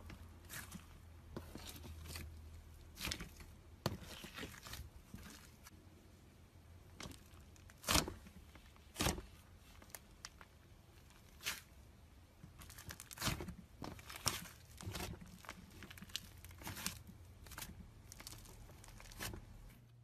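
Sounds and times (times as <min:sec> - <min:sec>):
slime squishing and crackling: 0:00.0 - 0:05.8, 0:06.8 - 0:19.7.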